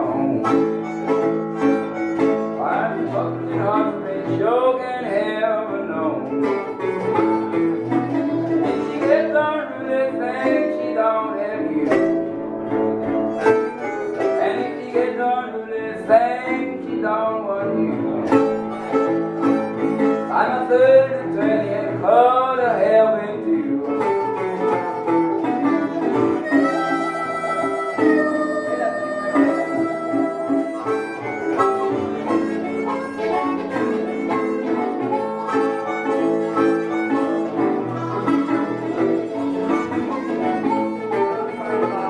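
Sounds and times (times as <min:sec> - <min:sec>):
harmonica wailing: 0:00.0 - 0:05.4, 0:06.1 - 0:16.0, 0:18.0 - 0:42.0
resonator guitar: 0:00.0 - 0:42.0.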